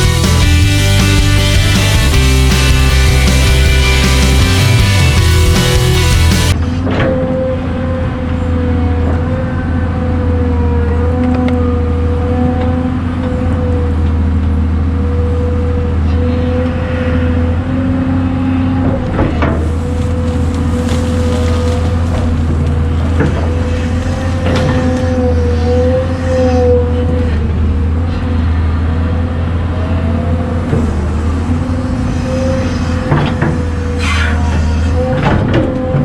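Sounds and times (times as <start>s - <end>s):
diesel engine running: 0.0s - 36.0s
engine whine: 0.0s - 36.0s.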